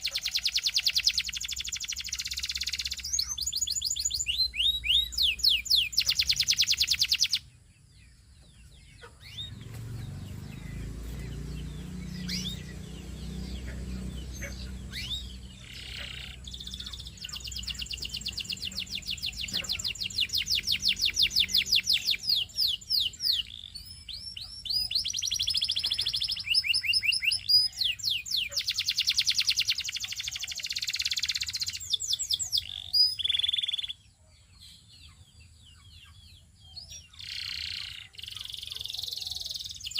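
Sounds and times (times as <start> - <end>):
canary trilling: 0.0 - 7.5, 8.8 - 34.0, 36.8 - 39.9
canary chirps: 0.0 - 39.9.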